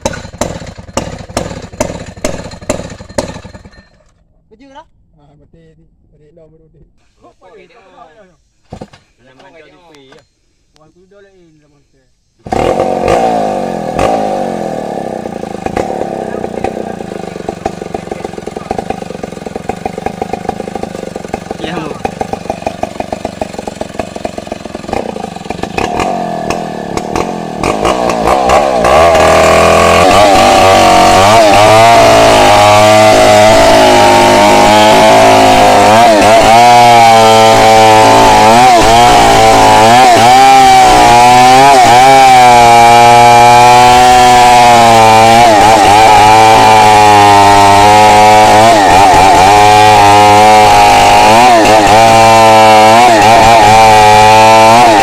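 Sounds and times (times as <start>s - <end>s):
chainsaw cutting wood: 0.0s - 3.8s, 12.4s - 55.0s.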